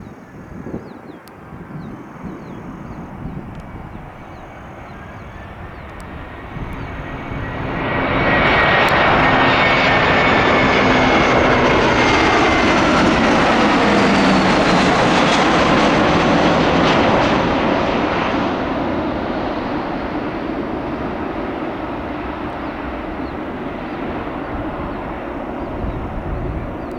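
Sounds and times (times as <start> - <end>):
jet airliner flying past: 0.0 - 26.9.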